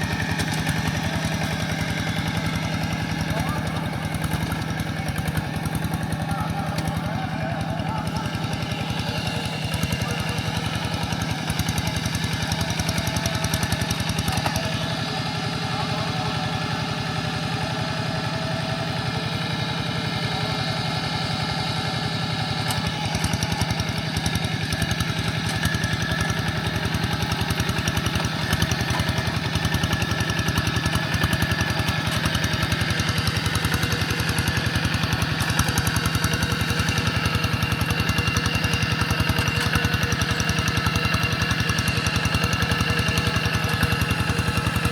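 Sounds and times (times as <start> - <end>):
diesel engine chugging: 0.0 - 44.9.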